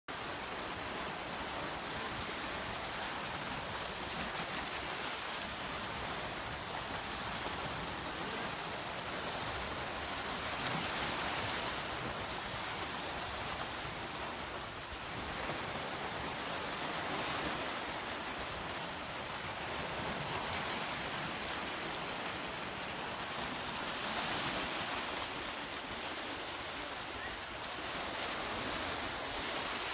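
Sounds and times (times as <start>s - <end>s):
waves washing over rocky shore: 0.1s - 29.9s.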